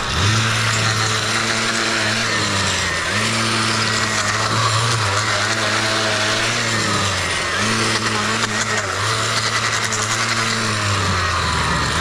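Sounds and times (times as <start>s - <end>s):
blade cutting grass hiss: 0.0s - 12.0s
two-stroke edger engine running: 0.0s - 12.0s.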